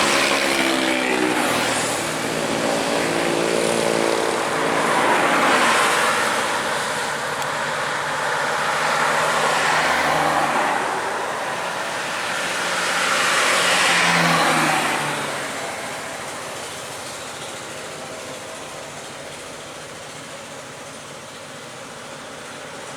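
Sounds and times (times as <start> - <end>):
vehicles passing close by: 0.0 - 22.9.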